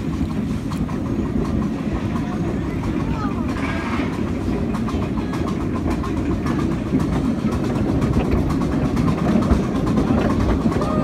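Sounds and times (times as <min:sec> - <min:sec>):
miniature train rumbling: 0:00.0 - 0:11.0
wheels clicking on track: 0:00.0 - 0:11.0.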